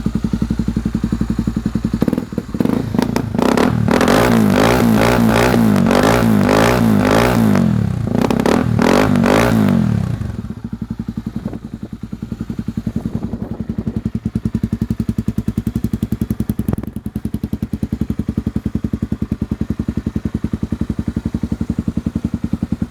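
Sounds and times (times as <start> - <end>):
motorcycle engine revving and idling: 0.0 - 22.9.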